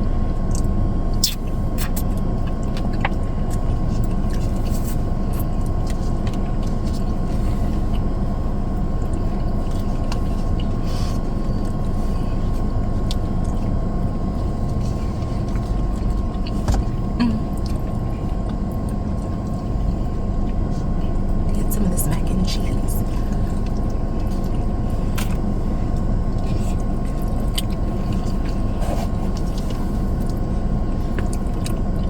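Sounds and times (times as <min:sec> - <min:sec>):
car engine rumble in cabin: 0:00.0 - 0:32.0.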